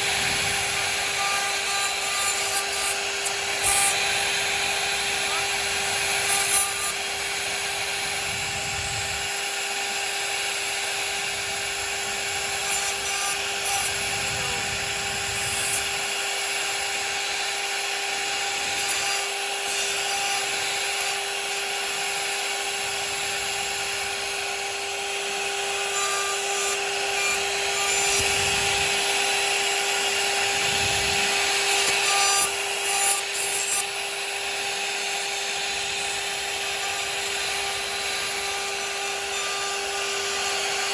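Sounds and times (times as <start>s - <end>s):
bit cutting wood hiss: 0.0s - 24.7s, 25.3s - 40.9s
router spindle whine: 0.0s - 40.9s.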